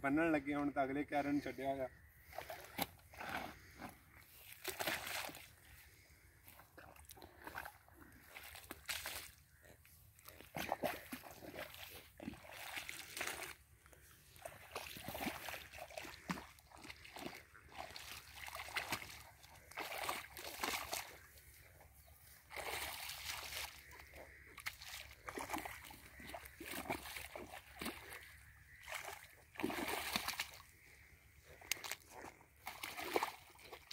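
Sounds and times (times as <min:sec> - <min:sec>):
water and mud splashing: 0:00.1 - 0:33.9.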